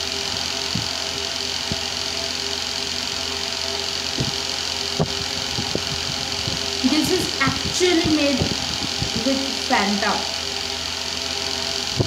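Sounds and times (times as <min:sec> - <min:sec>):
room fan humming: 0:00.0 - 0:12.0.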